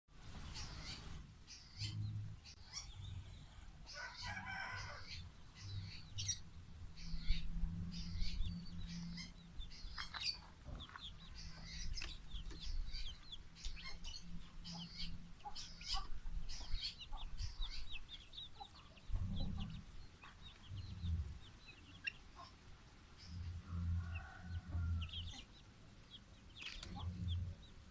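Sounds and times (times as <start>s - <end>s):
songbird chirping and trilling: 0.2s - 27.9s.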